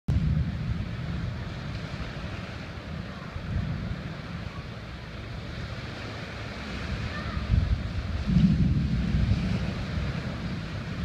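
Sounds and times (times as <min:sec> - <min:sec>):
surf hissing on beach: 0:00.1 - 0:11.0
wind buffeting microphone: 0:00.1 - 0:11.0.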